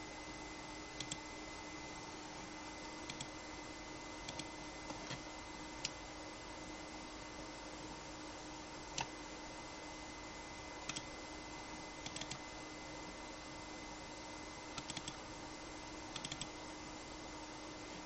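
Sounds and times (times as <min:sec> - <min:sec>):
faint electrical whine: 0:00.0 - 0:18.0.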